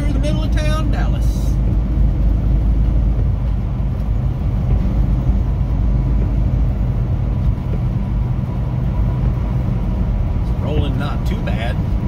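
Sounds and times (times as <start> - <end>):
truck diesel engine drone: 0.0 - 12.0
tyre noise on wet road: 0.0 - 12.0.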